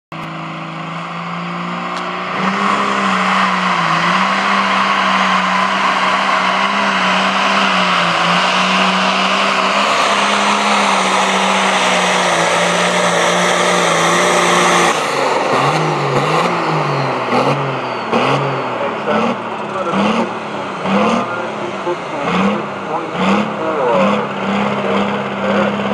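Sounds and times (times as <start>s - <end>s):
tractor diesel engine revving: 0.1s - 25.9s.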